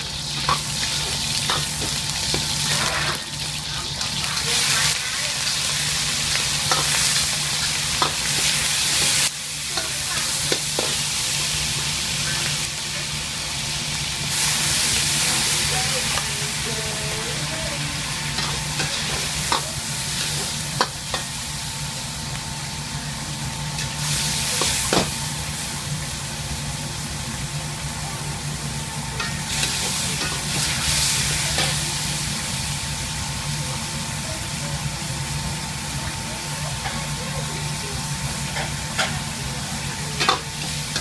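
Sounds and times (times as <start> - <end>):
food sizzling in hot oil: 0.0 - 41.0.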